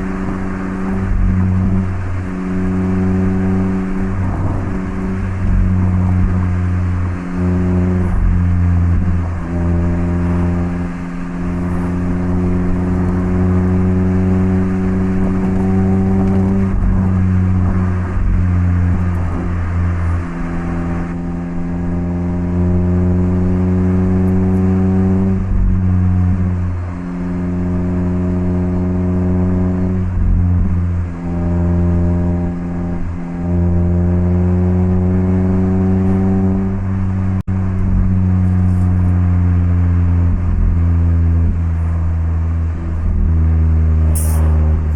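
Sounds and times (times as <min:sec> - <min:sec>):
car engine accelerating through gears: 0:00.0 - 0:44.9.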